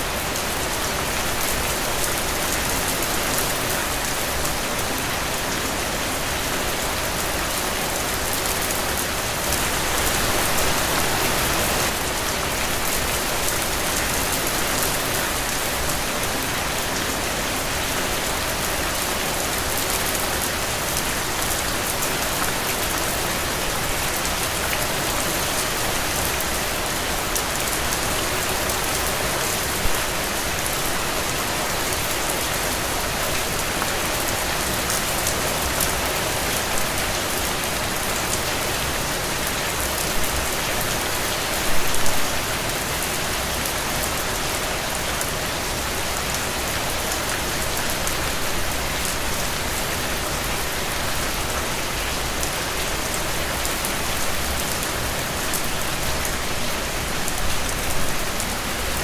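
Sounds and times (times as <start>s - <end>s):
heavy rain on ground and puddles: 0.0s - 59.0s.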